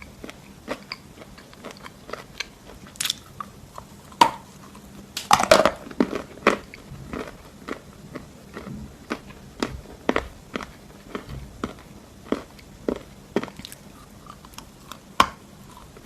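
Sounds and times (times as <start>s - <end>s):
chalk crunching while chewed: 0.0s - 5.0s, 5.8s - 16.0s.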